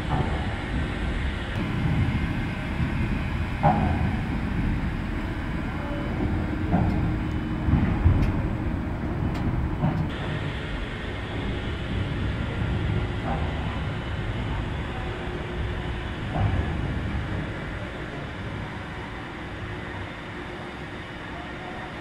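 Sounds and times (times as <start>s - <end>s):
electric locomotive rumbling: 0.0s - 22.0s.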